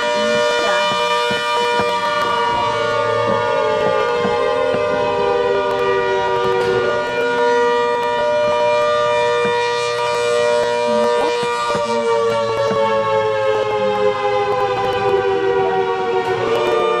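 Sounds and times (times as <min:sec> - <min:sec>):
civil defense sirens wailing: 0:00.0 - 0:17.0.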